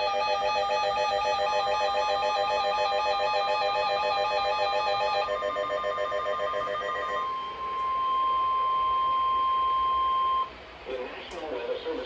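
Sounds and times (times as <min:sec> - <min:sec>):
steady high-pitched alarm tone: 0:00.0 - 0:10.5.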